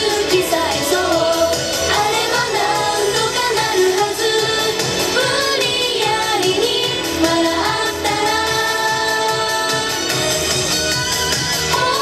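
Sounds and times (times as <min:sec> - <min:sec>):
backing track with steady beat: 0:00.0 - 0:12.0
women singing pop song: 0:00.0 - 0:12.0.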